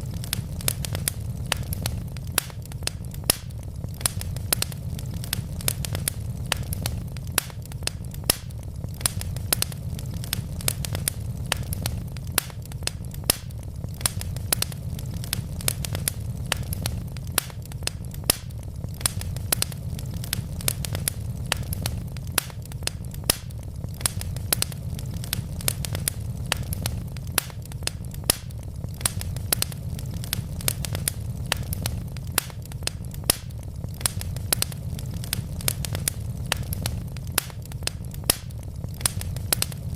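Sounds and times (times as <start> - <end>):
logs crackling in fireplace: 0.0 - 39.9
steady low rumble: 0.0 - 39.9.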